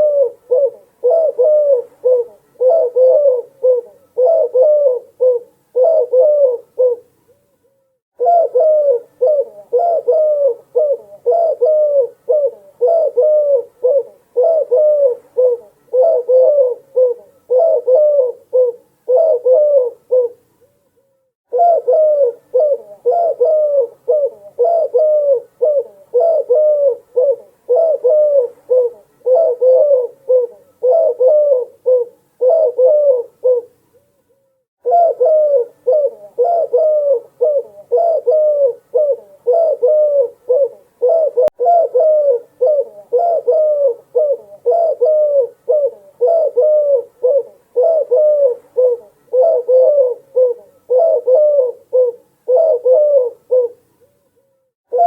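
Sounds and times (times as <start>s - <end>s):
dove cooing: 0.0s - 7.4s, 8.2s - 20.7s, 21.5s - 34.0s, 34.8s - 54.2s.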